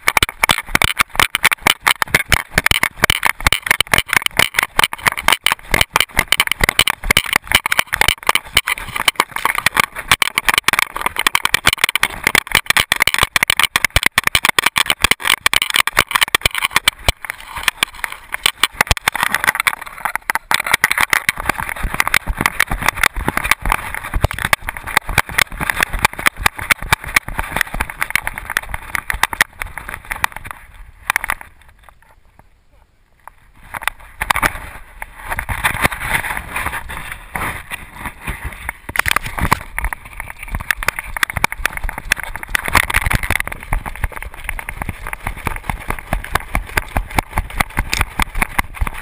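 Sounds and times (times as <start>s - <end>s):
steady rushing noise: 0.0s - 49.0s.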